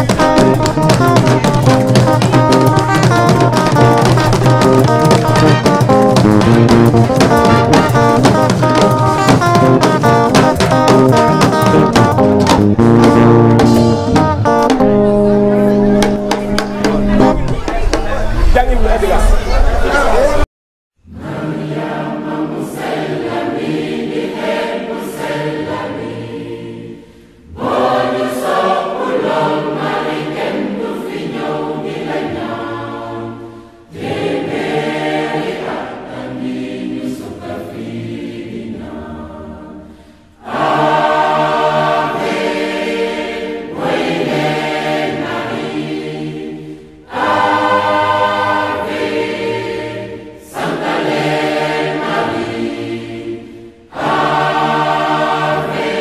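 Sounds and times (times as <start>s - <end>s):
choir singing a hymn: 0.0s - 12.2s, 21.0s - 56.0s.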